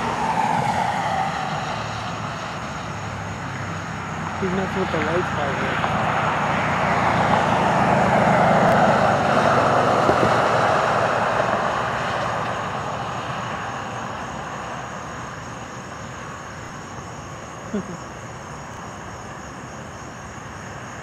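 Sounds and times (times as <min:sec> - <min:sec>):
car passing on the road: 0:00.0 - 0:21.0.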